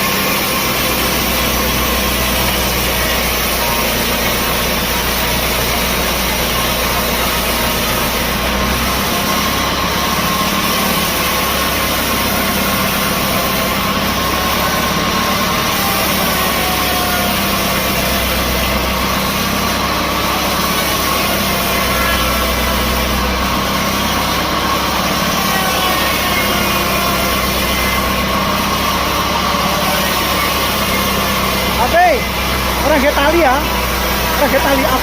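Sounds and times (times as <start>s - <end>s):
sawmill machinery whining: 0.0s - 35.0s.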